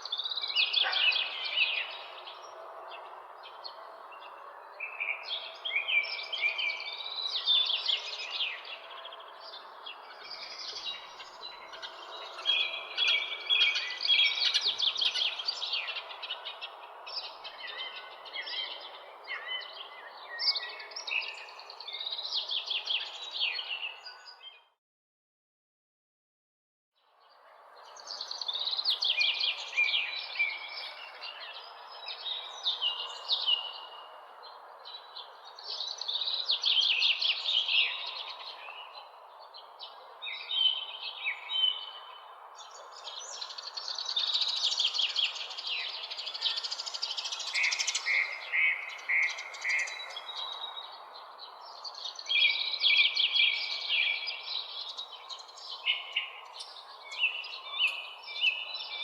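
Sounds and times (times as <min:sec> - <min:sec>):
songbirds chirping: 0:00.0 - 0:24.8, 0:27.0 - 0:59.0.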